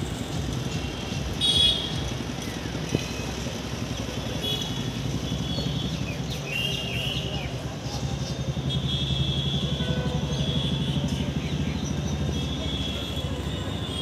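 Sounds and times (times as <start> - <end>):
motorcycle engines: 0.0 - 14.0
town traffic hum: 0.0 - 14.0.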